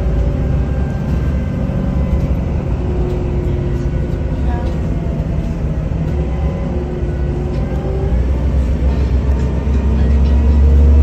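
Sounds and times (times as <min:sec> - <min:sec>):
bus engine drone: 0:00.0 - 0:11.0
road rumble: 0:00.0 - 0:11.0.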